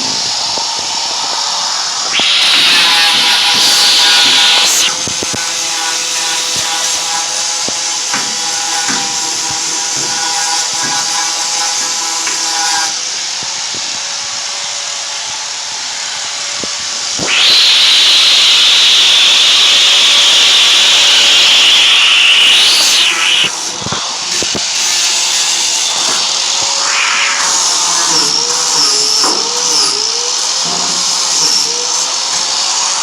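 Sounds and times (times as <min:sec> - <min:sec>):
power grinder on rusted steel: 0:00.0 - 0:33.0.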